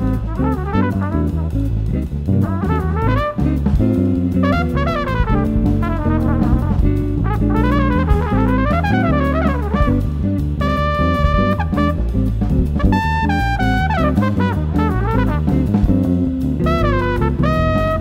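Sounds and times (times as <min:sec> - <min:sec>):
bass line: 0:00.0 - 0:18.0
brass melody with bending notes: 0:00.0 - 0:18.0
drum kit: 0:00.0 - 0:18.0.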